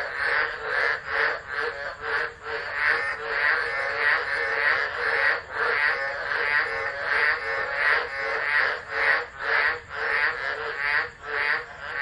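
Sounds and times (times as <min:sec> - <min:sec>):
chorus of frogs calling: 0:00.0 - 0:12.0.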